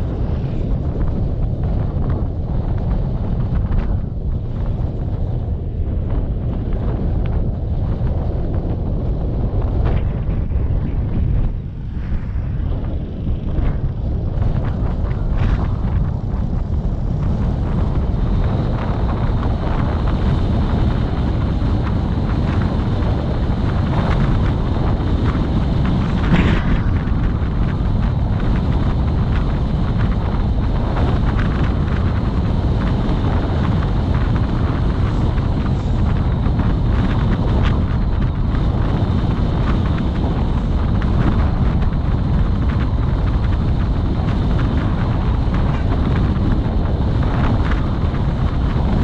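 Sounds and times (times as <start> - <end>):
vehicle road and engine noise: 0.0 - 49.0
wind buffeting microphone: 0.0 - 49.0.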